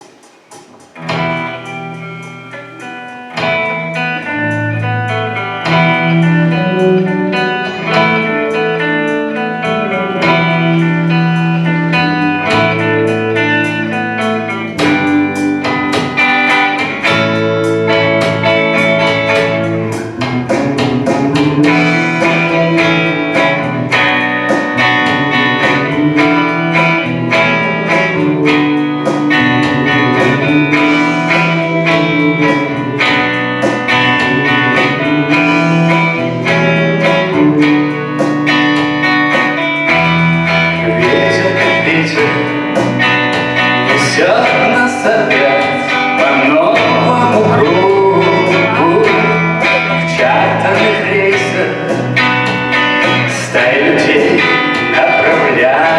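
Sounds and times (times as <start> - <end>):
instrumental guitar music: 0.0 - 55.9.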